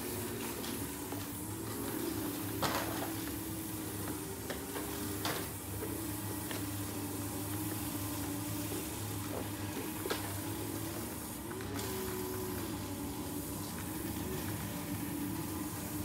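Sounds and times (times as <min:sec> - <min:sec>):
background hum and hiss: 0:00.0 - 0:16.0.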